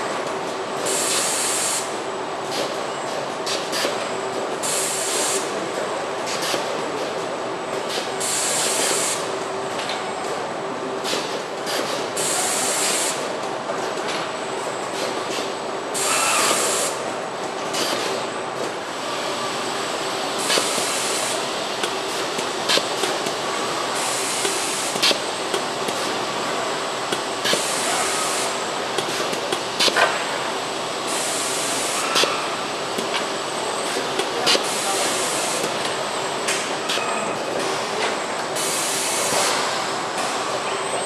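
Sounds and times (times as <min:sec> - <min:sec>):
steady machinery noise: 0:00.0 - 0:41.0.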